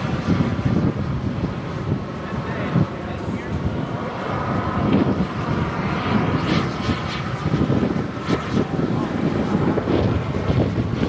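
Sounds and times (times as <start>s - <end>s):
heavy low rumble: 0.0s - 11.0s
model jet turbine flying past: 0.0s - 11.0s.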